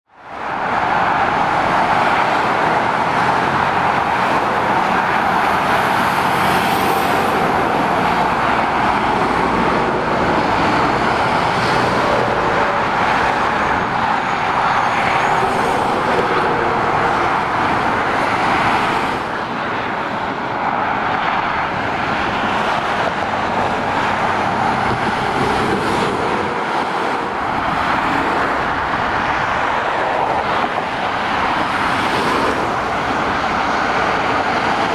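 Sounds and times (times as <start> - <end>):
diesel engines: 0.0 - 34.9
lorries and cars passing: 0.1 - 34.9.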